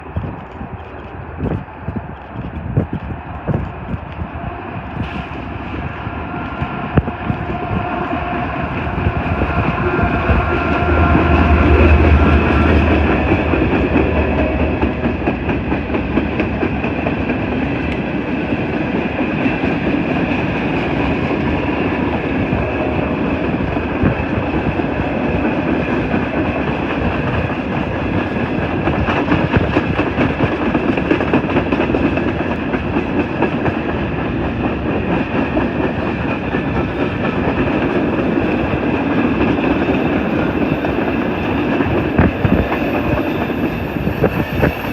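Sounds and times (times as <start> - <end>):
train cars rattling over rails: 0.0 - 44.9.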